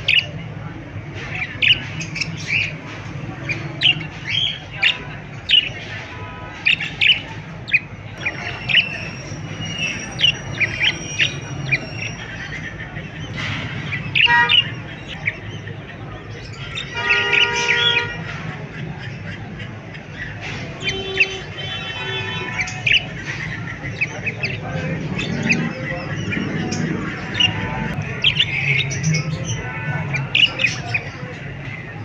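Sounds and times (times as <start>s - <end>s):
parrots chirping and squawking: 1.2s - 32.0s.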